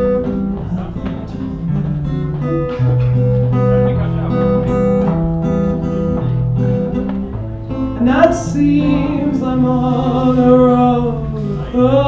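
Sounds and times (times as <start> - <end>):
bass line: 0.0 - 12.0
strummed acoustic guitar: 0.0 - 12.0.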